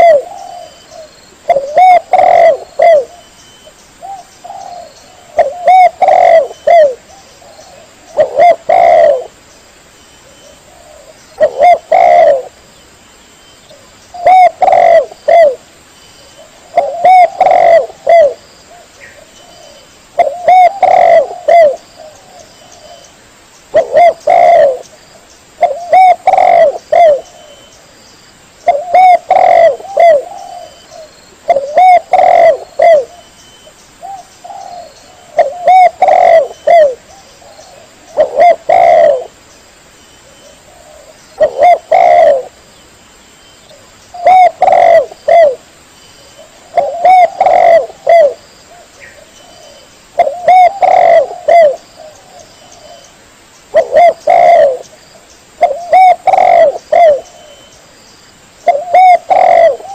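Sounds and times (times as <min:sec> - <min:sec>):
dove cooing: 0:00.0 - 0:09.4, 0:10.2 - 0:12.6, 0:13.7 - 0:15.6, 0:16.3 - 0:23.1, 0:23.7 - 0:24.9, 0:25.6 - 0:27.7, 0:28.6 - 0:33.3, 0:34.0 - 0:39.4, 0:40.2 - 0:42.6, 0:43.7 - 0:45.7, 0:46.4 - 0:53.1, 0:53.7 - 0:55.0, 0:55.6 - 0:57.7, 0:58.6 - 0:59.9.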